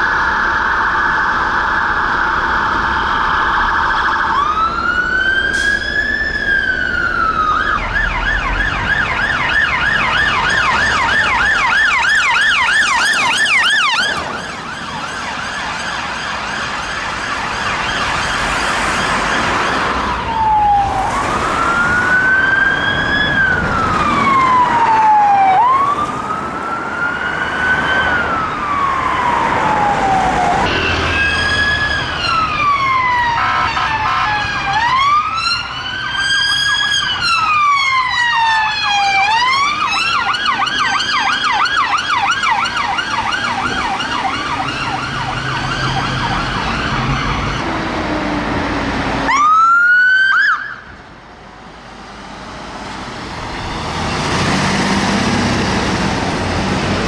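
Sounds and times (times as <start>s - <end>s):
emergency siren wailing and yelping: 0.0s - 51.9s, 52.7s - 57.0s
slow wailing siren: 0.0s - 57.0s.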